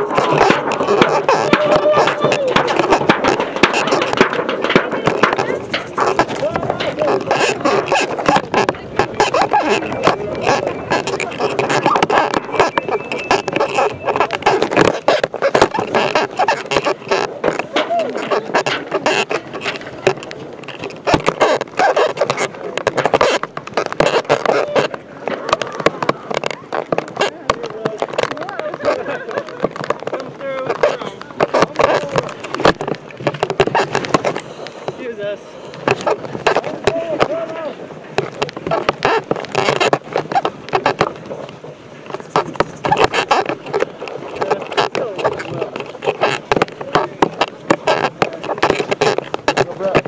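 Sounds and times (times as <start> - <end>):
close crackling and scraping: 0.0 - 50.0.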